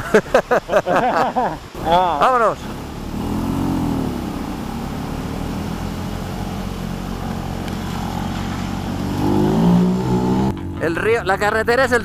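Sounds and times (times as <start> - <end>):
motorcycle engines approaching: 1.7 - 12.0.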